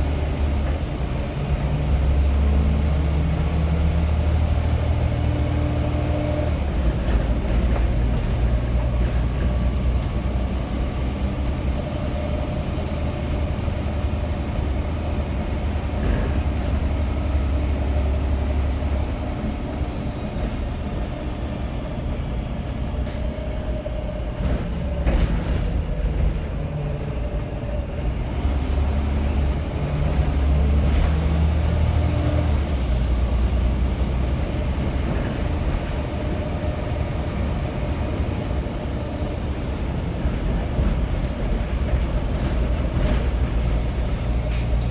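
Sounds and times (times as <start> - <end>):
diesel bus engine accelerating: 0.0 - 44.9.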